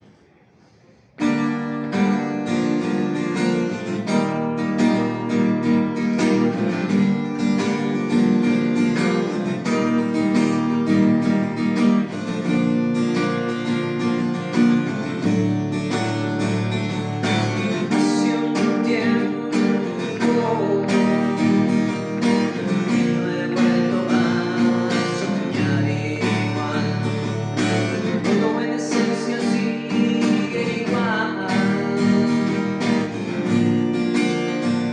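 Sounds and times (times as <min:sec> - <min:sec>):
acoustic guitar music: 0:00.0 - 0:34.9.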